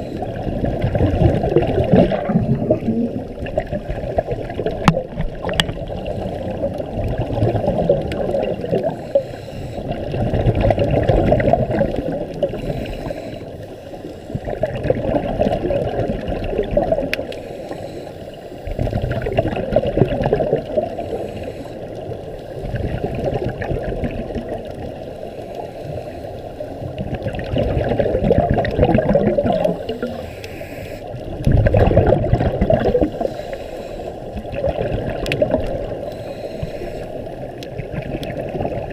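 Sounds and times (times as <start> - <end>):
underwater exhaust bubbles: 0.0 - 38.9.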